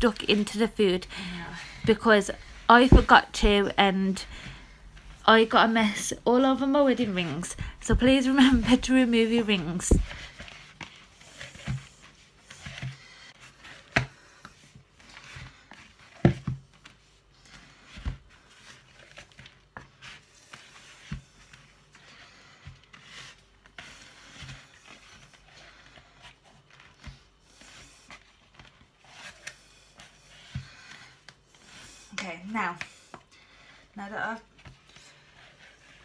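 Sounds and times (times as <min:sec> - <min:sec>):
hands kneading dough: 0:00.0 - 0:36.0.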